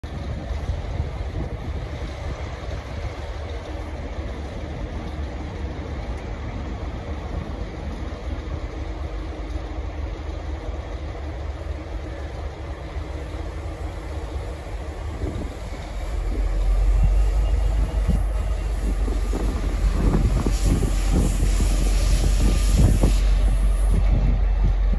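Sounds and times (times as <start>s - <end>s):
wind buffeting microphone: 0.0s - 9.4s, 12.9s - 24.9s
diesel locomotive engine rumble: 0.0s - 24.9s.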